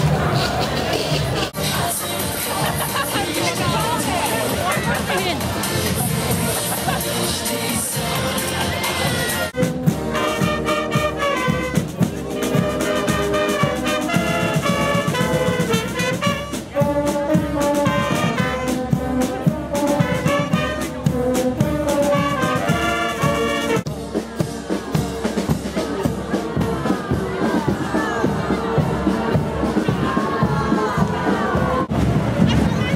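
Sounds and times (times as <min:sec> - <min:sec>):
brass band playing: 0:00.0 - 0:32.9.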